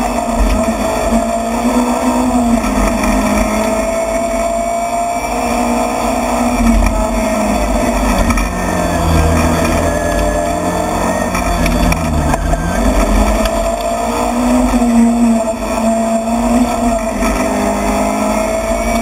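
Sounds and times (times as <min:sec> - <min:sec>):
rally car engine from inside: 0:00.0 - 0:19.0
road and tyre noise: 0:00.0 - 0:19.0.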